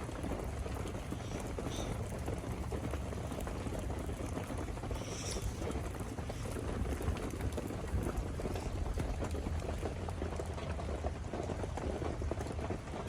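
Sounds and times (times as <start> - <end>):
rain pattering on tent roof: 0.0 - 13.0.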